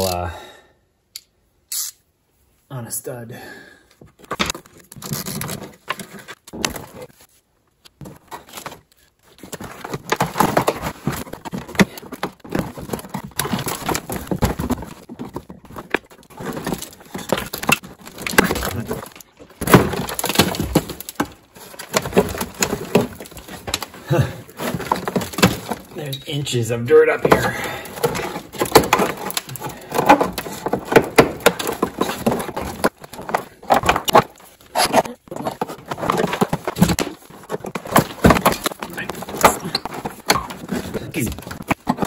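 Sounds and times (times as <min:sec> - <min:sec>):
plastic liner crackling and scraping: 0:04.1 - 0:42.0.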